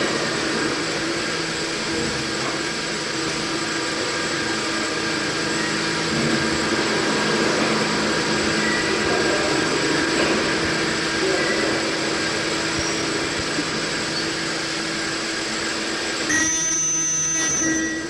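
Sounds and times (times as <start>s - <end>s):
steam engine running: 0.0s - 18.0s.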